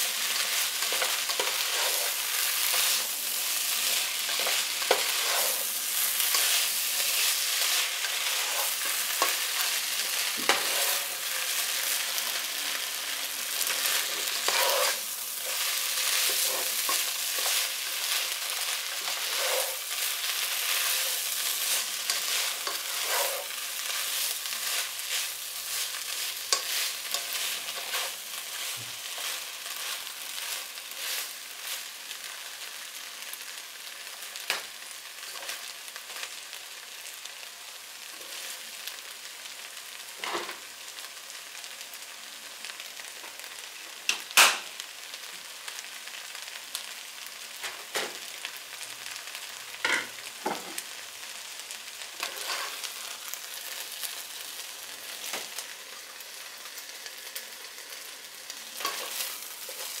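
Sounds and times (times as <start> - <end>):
food sizzling in a pot: 0.0 - 60.0.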